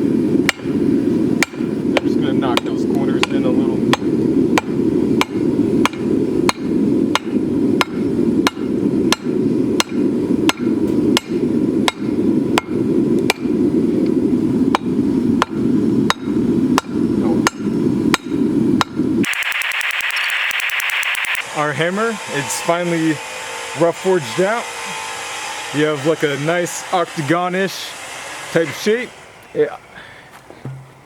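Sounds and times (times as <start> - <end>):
hammer blows on hot steel: 0.4 - 13.5, 14.7 - 29.3.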